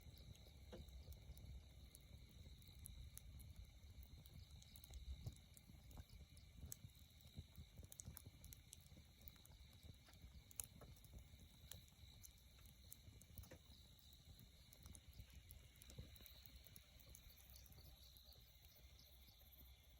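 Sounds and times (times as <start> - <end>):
campfire crackling: 0.0 - 18.8.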